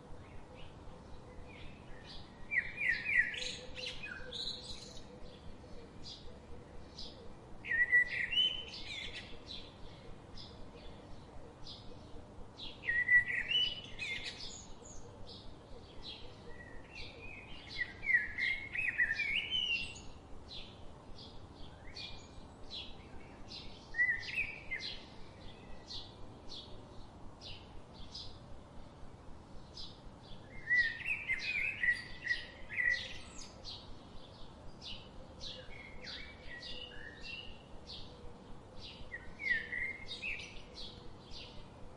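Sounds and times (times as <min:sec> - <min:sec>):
bird warbling song: 0:00.0 - 0:28.4, 0:29.6 - 0:41.8.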